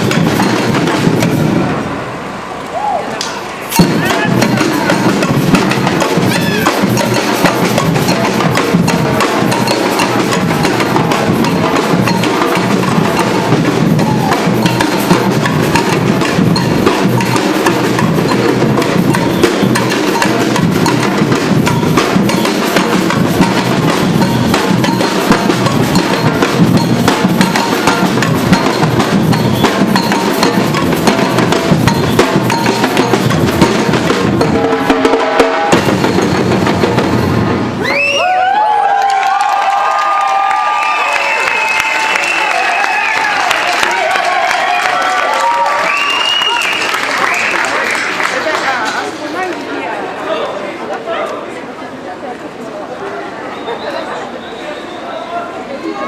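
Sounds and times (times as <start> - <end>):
drum ensemble playing: 0.0 - 49.4.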